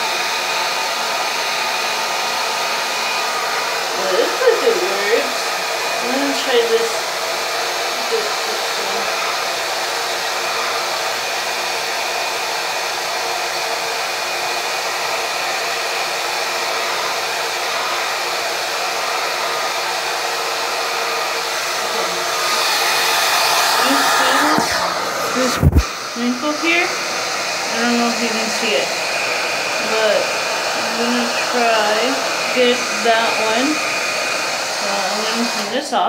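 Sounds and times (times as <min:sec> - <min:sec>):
hair dryer blowing air: 0:00.0 - 0:36.0.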